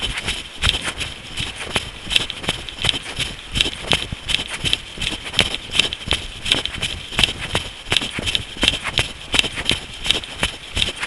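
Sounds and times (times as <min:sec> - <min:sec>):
running footsteps on path: 0:00.0 - 0:11.0.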